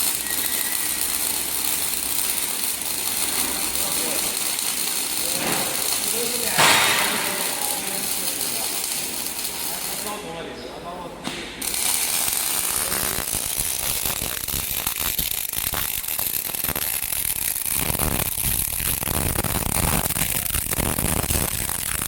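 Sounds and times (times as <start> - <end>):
welding arc crackling: 0.0 - 10.3, 11.5 - 22.0.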